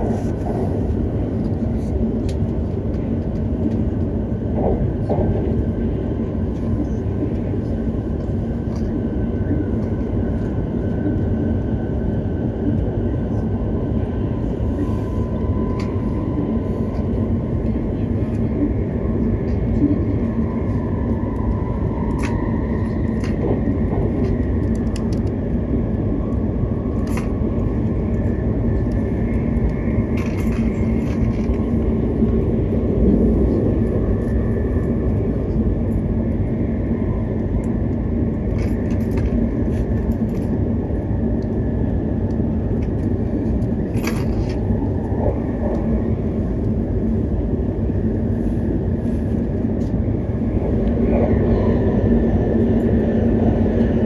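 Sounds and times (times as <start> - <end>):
train cabin rumble: 0.0 - 54.0.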